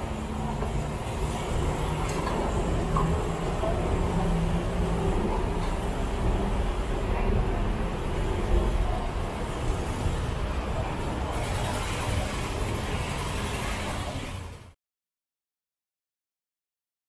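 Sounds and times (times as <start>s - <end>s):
road traffic rumble: 0.0s - 14.8s.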